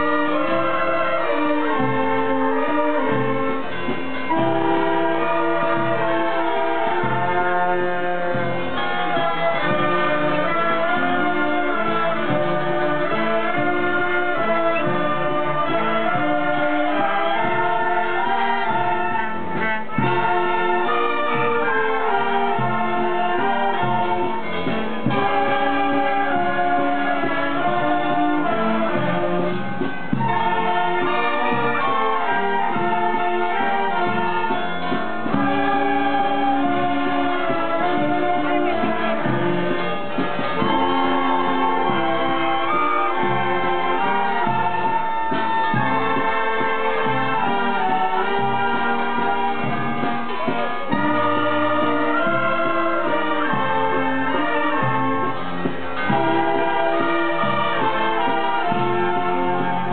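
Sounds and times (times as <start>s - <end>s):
wind band playing: 0.0s - 59.9s.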